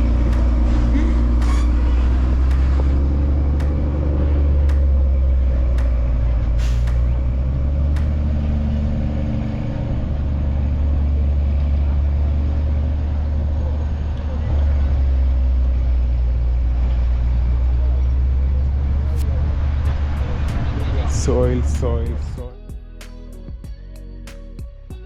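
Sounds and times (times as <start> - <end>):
highway traffic rumble: 0.0 - 22.5.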